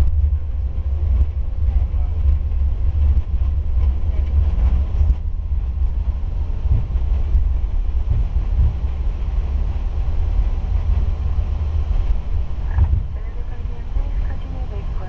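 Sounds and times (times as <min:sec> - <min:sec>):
aircraft wheels rumbling on runway: 0:00.0 - 0:15.0.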